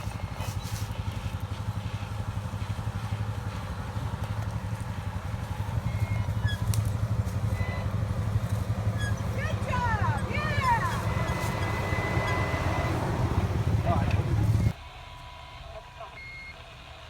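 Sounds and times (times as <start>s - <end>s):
jeep engine idling: 0.0s - 14.8s.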